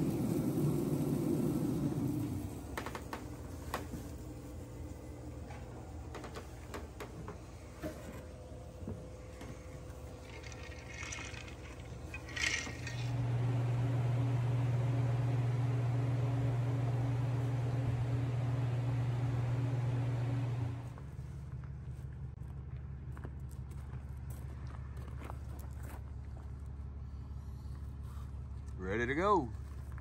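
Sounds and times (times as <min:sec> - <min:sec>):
refrigeration unit humming: 0:00.0 - 0:30.0.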